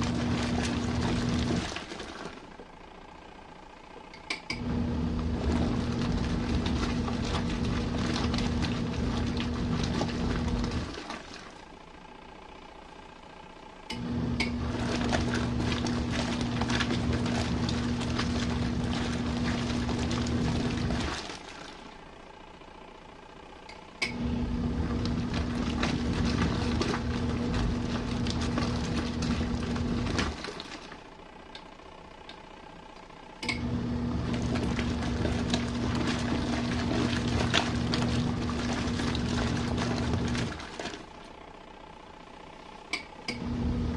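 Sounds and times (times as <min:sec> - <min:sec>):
washing machine motor humming: 0:00.0 - 0:43.9.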